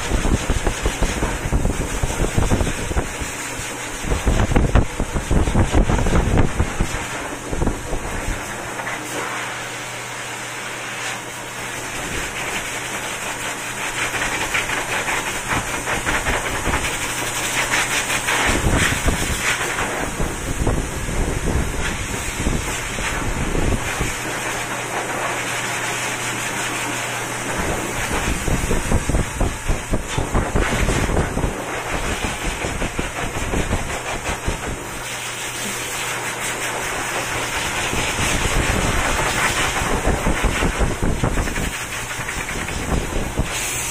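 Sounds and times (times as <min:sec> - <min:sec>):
pet dryer blowing air: 0:00.0 - 0:43.9.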